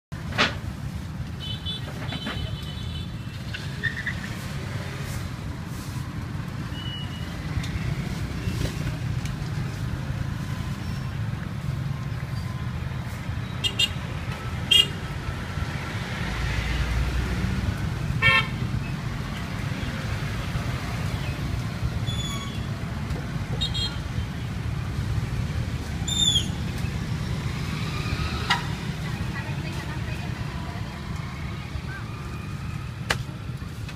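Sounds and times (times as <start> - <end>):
low rumble of passing vehicles: 0.2 - 33.9.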